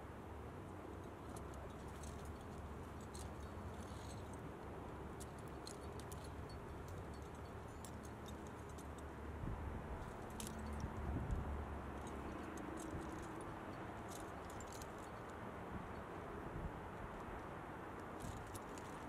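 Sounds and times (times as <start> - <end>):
metal climbing gear clinking: 0.6 - 9.3, 9.9 - 11.1, 11.8 - 16.2, 17.0 - 19.0.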